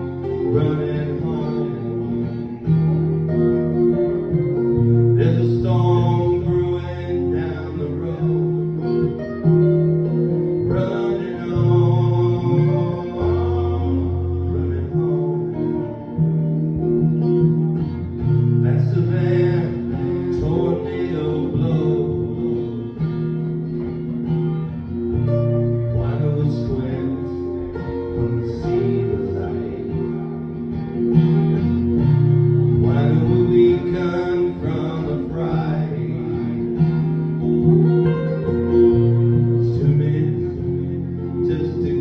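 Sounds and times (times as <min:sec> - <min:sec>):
two acoustic guitars playing: 0:00.0 - 0:42.0.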